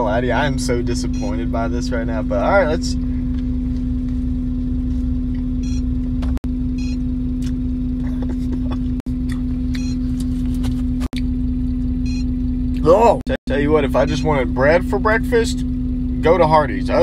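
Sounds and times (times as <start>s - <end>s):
vehicle idling inside cab: 0.0s - 17.0s.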